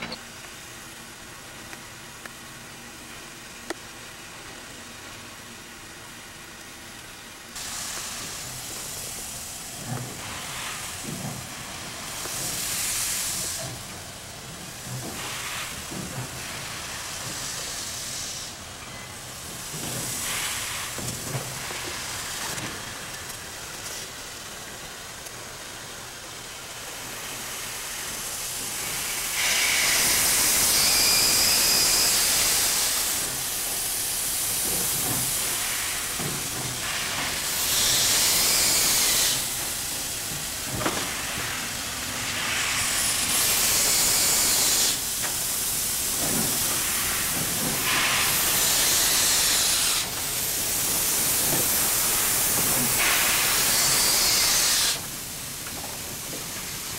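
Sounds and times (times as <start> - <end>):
steam locomotive hissing steam: 2.4 - 56.9.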